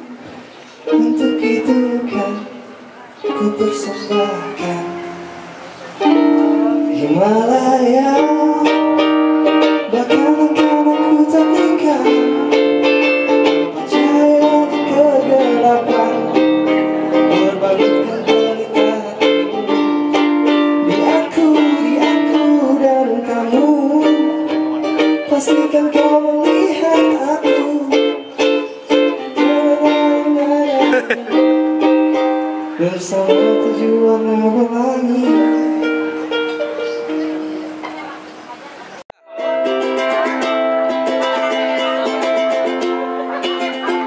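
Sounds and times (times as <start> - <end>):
strummed ukulele: 0.0 - 2.5, 3.2 - 38.3, 39.2 - 44.0
man singing into a microphone: 0.8 - 37.1.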